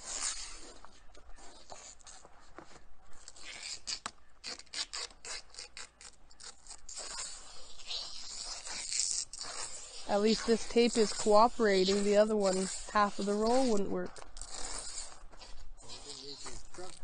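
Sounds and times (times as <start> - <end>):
tape peeling off roll: 0.0 - 17.0.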